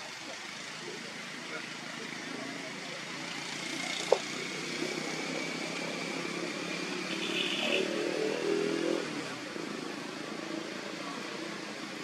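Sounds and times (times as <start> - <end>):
engine: 0.0 - 12.0
motor traffic: 0.0 - 12.0.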